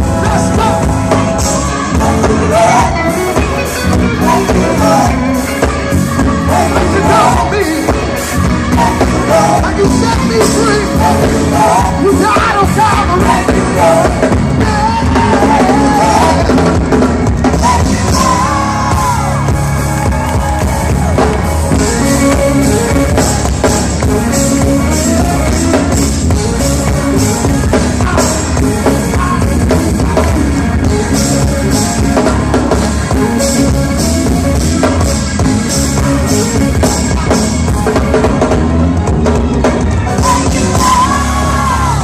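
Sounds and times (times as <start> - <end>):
gospel choir with band: 0.0 - 42.0.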